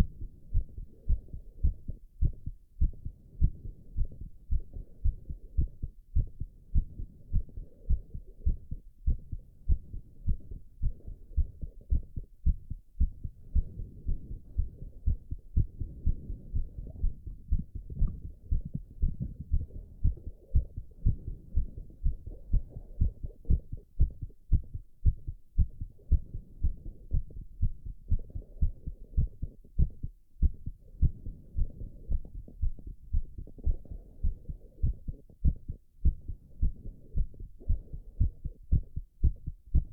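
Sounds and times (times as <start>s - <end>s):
heart beating fast: 0.0s - 39.9s.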